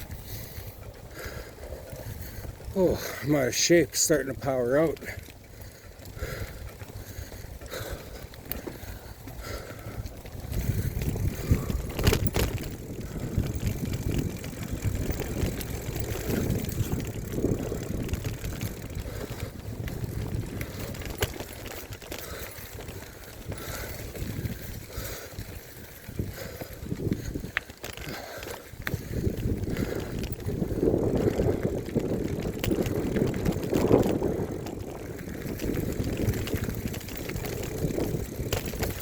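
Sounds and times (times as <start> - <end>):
bike tyres and frame rumbling: 0.0 - 39.0.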